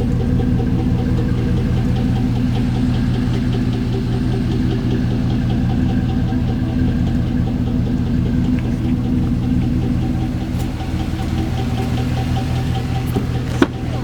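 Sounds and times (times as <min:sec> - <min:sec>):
engine running with rod knock: 0:00.0 - 0:14.0.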